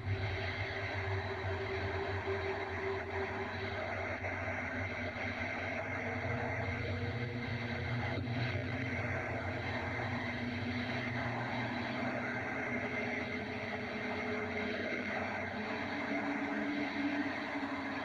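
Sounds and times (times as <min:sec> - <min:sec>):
low steady drone: 0:00.0 - 0:18.0.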